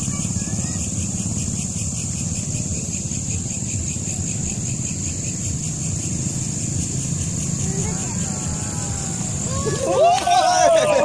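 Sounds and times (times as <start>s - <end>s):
constant high hiss: 0.0s - 11.0s
road traffic rumble: 0.0s - 11.0s.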